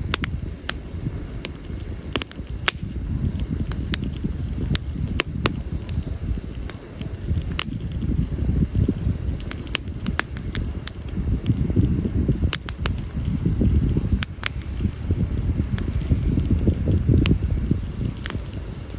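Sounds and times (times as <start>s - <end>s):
campfire crackles and pops: 0.0s - 18.9s
fire low rumble: 0.0s - 18.9s.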